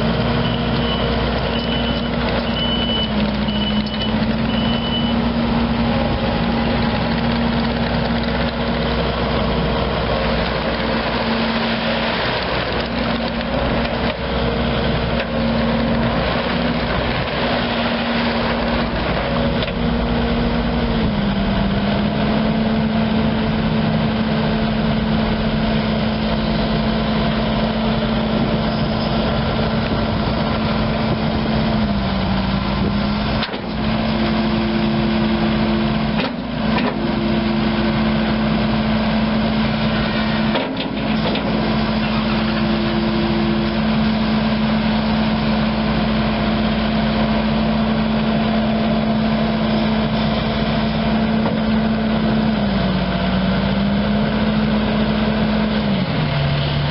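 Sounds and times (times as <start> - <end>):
diesel engine running at high revs: 0.0 - 56.9.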